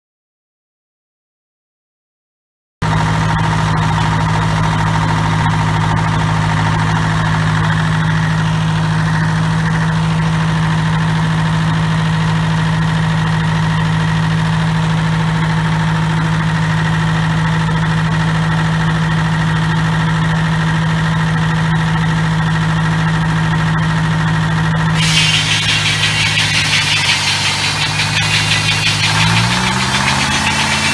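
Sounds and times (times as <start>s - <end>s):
diesel engine running: 2.8s - 30.9s.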